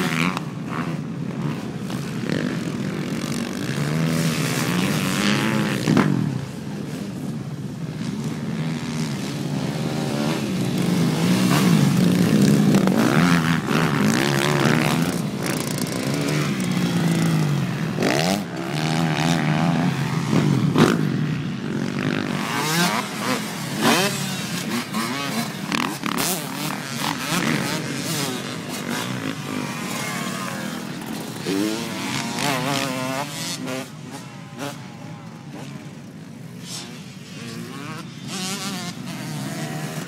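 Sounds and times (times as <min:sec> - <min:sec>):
dirt bike engines revving: 0:00.0 - 0:40.0.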